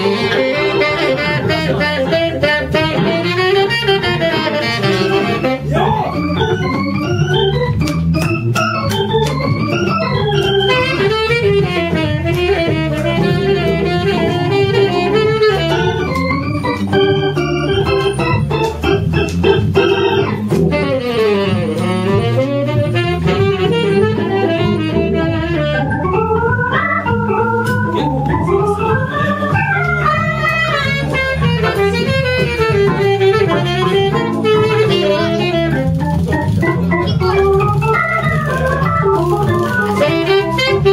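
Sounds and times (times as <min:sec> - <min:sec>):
jazz band playing: 0:00.0 - 0:40.9
organ lead line: 0:00.0 - 0:40.9
stepping bass: 0:00.0 - 0:40.9.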